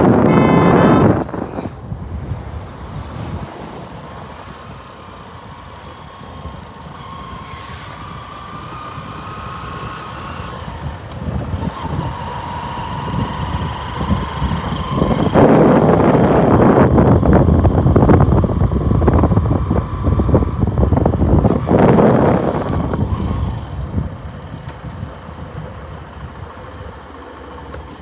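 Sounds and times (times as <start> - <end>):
vehicle engine and road rumble: 0.0 - 28.0.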